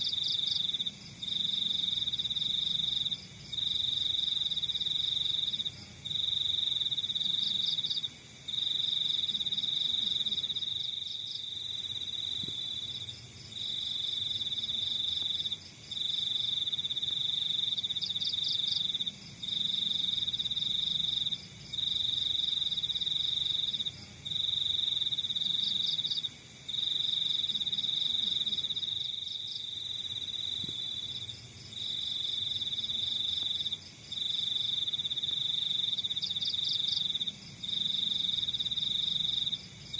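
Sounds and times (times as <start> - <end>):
cricket trilling: 0.0 - 39.9.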